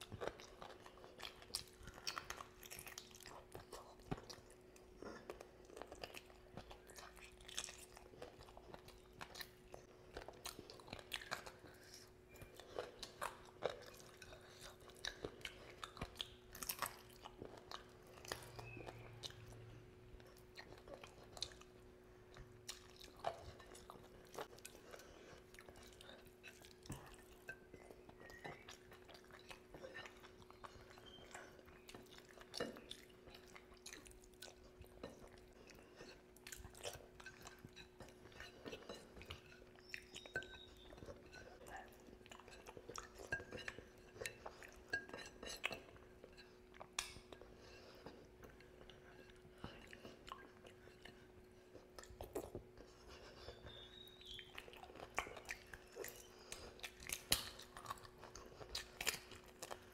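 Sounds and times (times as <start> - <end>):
faint steady hum: 0.0 - 59.9
person chewing food: 0.0 - 59.9.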